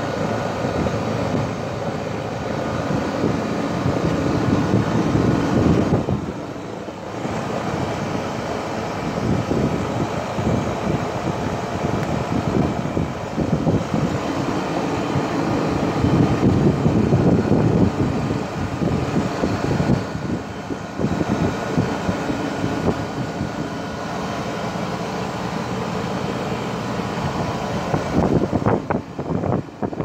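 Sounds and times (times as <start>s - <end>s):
fan air rushing: 0.0s - 30.0s
wind buffeting microphone: 0.0s - 30.0s.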